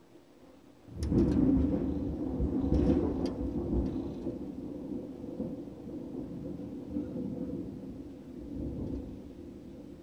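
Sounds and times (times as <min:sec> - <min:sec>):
thunder crackles: 0:00.9 - 0:10.0
thunder rumbling: 0:00.9 - 0:10.0.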